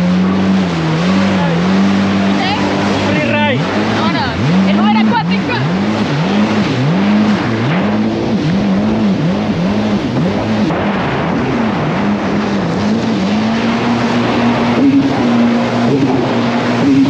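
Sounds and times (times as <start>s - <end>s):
jet ski engine running: 0.0s - 17.0s
water spray rushing: 0.0s - 17.0s.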